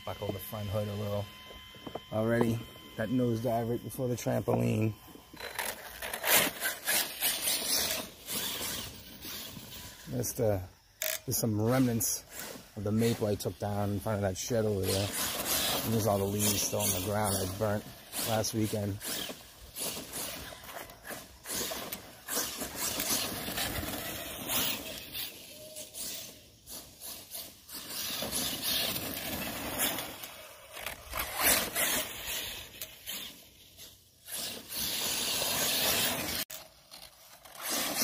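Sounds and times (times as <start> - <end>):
toy truck motor hissing: 5.3 - 38.0.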